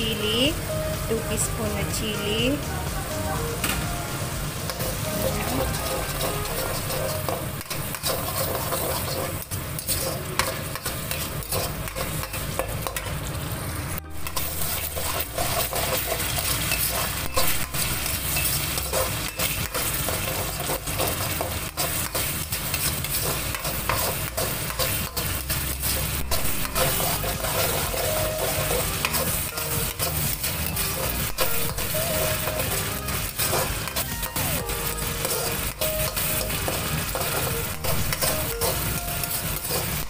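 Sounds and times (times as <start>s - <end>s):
spice paste sizzling in oil: 0.0s - 40.0s
utensil scraping a pan: 4.7s - 13.0s, 14.1s - 34.1s, 35.0s - 40.0s.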